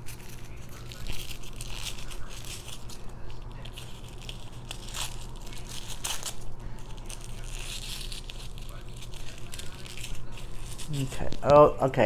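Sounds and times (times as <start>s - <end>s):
paper and cardboard crinkling: 0.0s - 12.0s.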